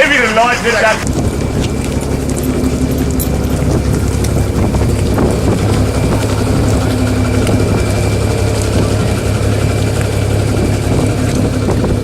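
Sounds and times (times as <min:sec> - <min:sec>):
engine humming: 0:00.0 - 0:12.0
wind buffeting microphone: 0:01.0 - 0:12.0.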